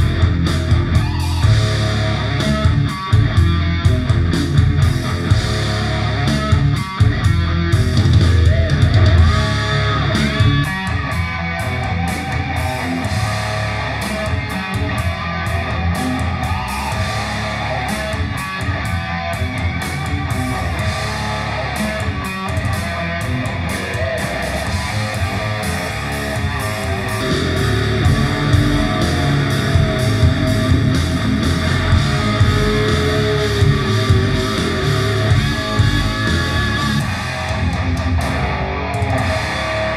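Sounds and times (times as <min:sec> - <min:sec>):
rock music through speakers: 0:00.0 - 0:39.9.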